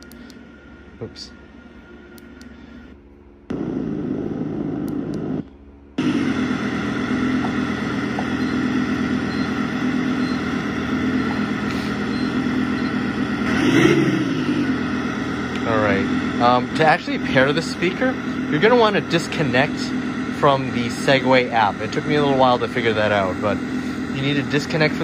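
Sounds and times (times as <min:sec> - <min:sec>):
simulated engine hum from speaker: 0:00.0 - 0:25.0.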